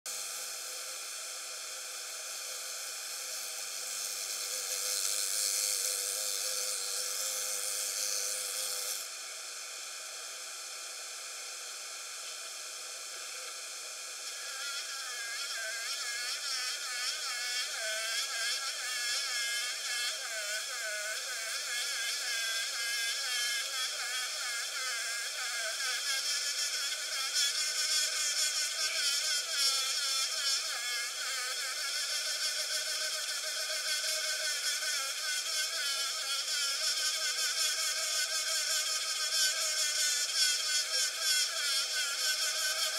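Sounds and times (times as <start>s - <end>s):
wasp buzzing: 0.1s - 9.1s, 13.3s - 42.9s.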